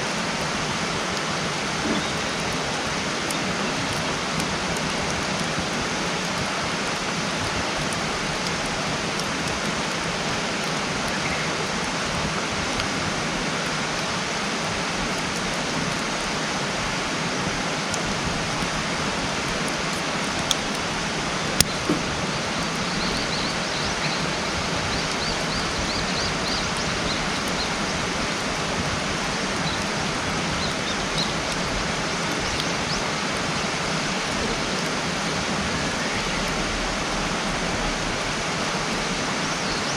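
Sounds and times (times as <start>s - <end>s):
campfire pops: 0.0s - 16.4s, 17.3s - 36.8s
campfire hissing: 0.0s - 39.9s.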